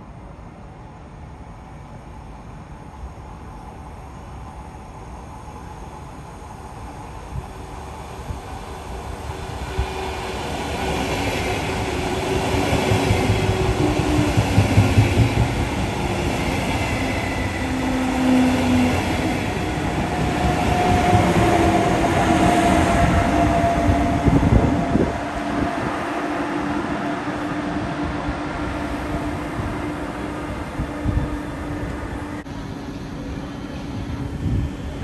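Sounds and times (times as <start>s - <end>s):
train wheels rumbling on rails: 6.0s - 35.0s.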